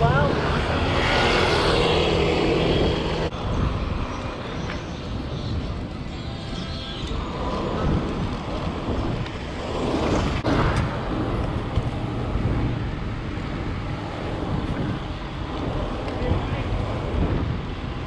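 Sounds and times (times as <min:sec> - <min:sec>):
road and traffic noise: 0:00.0 - 0:18.0
wind rumbling on microphone: 0:00.0 - 0:18.0.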